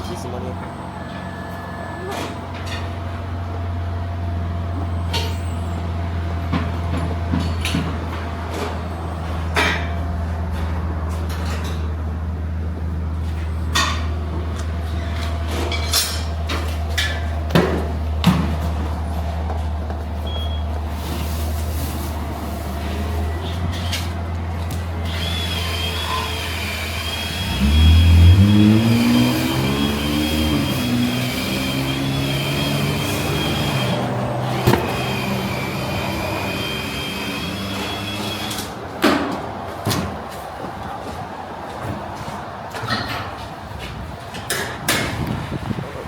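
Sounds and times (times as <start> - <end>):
car engine starting and idling: 0.0 - 39.7.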